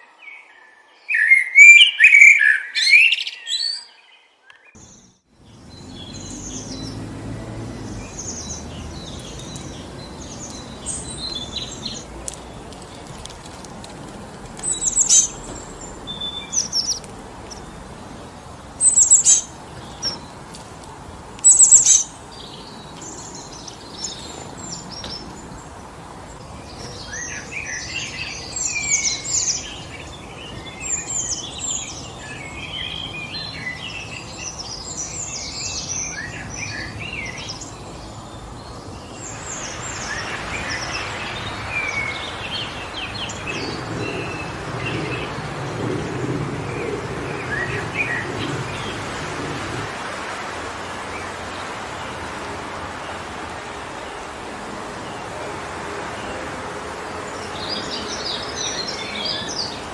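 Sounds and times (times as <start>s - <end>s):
songbirds calling: 0.0s - 59.9s
wind through trees: 0.0s - 59.9s.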